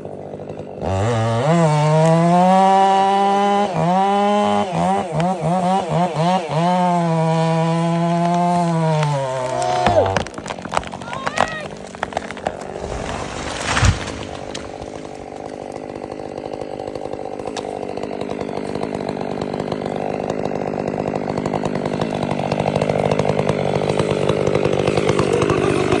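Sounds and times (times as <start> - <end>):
chainsaw running: 0.0 - 26.0.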